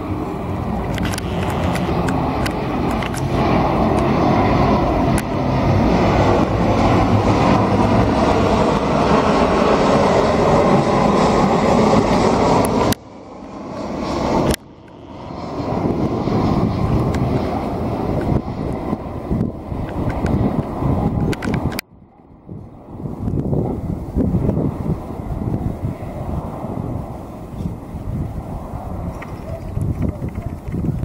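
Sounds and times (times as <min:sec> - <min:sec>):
jet engine of landing airliner: 0:00.0 - 0:31.0.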